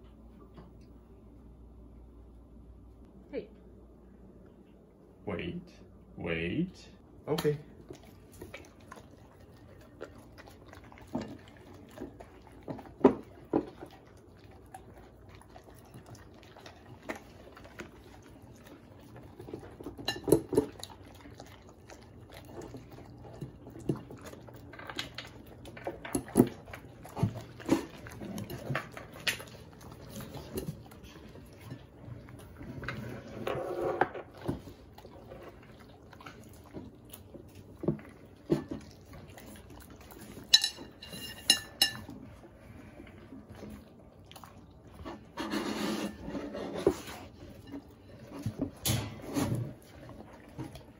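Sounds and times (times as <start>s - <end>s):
dogs crunching and chewing food: 7.1s - 50.9s.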